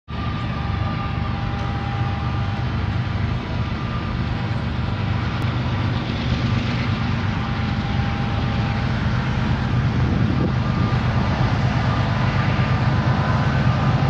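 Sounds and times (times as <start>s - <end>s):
diesel locomotive engine drone: 0.1s - 14.0s.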